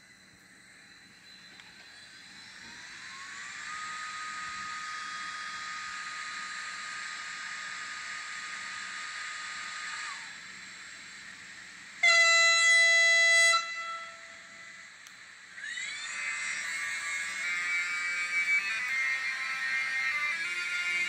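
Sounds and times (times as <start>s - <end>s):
electric locomotive motor whine: 0.0s - 21.0s
blower hiss: 1.4s - 21.0s.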